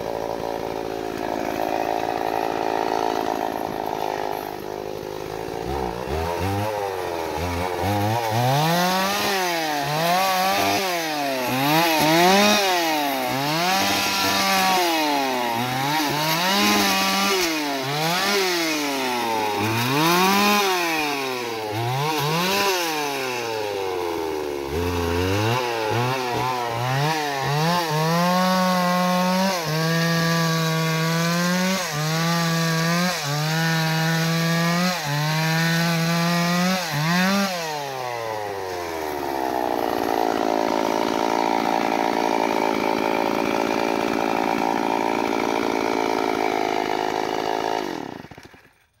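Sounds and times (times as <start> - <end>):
chainsaw cutting branches: 0.0 - 49.0.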